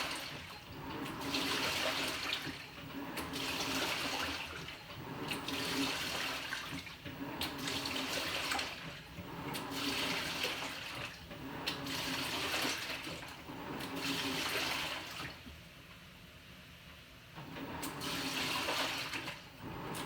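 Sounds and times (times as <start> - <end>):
washing machine water churning: 0.0 - 15.7, 17.3 - 20.0.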